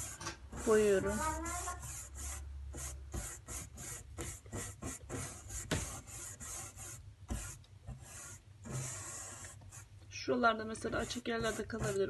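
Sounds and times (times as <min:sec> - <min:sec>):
paint brush scratching cardboard: 0:00.0 - 0:10.0, 0:10.7 - 0:12.0.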